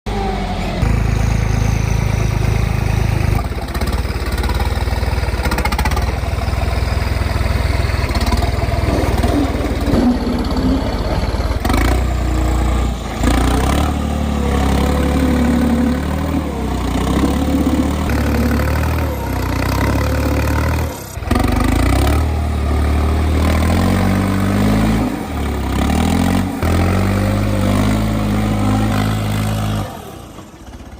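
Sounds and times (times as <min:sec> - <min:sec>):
tractor engine revving: 0:00.1 - 0:30.9.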